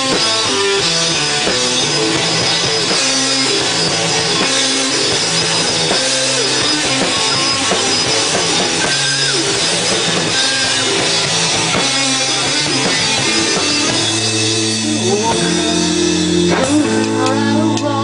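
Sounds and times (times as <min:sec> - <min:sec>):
rock band playing: 0:00.0 - 0:18.0
low held notes: 0:00.7 - 0:18.0.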